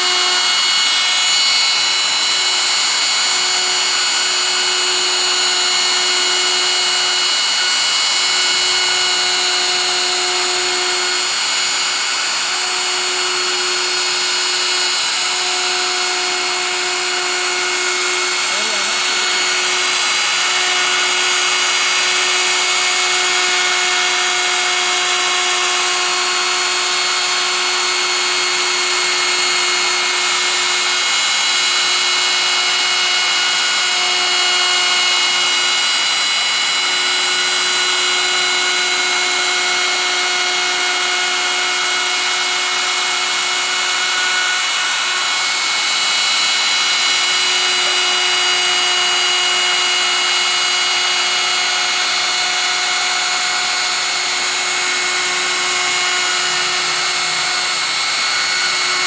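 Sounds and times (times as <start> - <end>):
router bit cutting wood: 0.0 - 59.0
router motor whine: 0.0 - 59.0.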